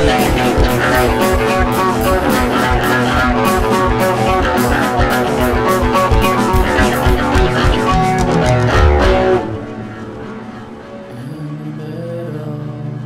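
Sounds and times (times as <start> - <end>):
guitar-led rock music: 0.0 - 11.2.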